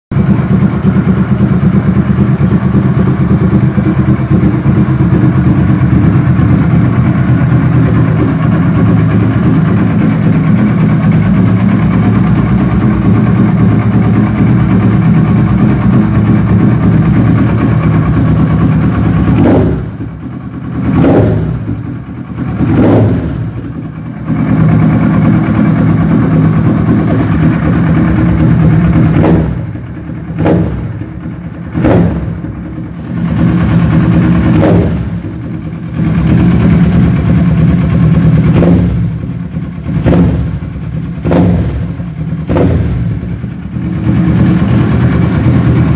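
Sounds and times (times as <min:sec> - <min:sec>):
motorcycle engine idling and revving: 0:00.1 - 0:45.9.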